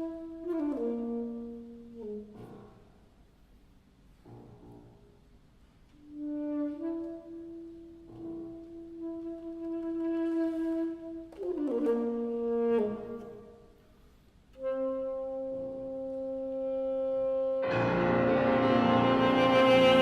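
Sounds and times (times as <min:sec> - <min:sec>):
alto saxophone playing: 0:00.0 - 0:03.0, 0:06.0 - 0:13.8, 0:14.5 - 0:20.0
piano: 0:00.0 - 0:03.2, 0:04.2 - 0:13.8, 0:14.6 - 0:20.0.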